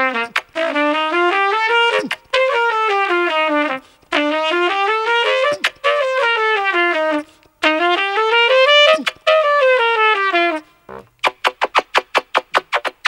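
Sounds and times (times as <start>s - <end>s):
solo trumpet runs: 0.0s - 11.0s.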